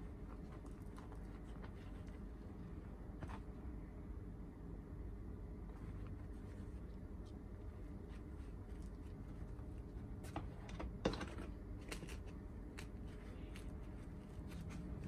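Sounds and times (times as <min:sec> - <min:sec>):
bread crust crackling: 0:00.0 - 0:03.8, 0:05.4 - 0:10.5, 0:11.6 - 0:15.0
faint low hum: 0:00.0 - 0:15.0.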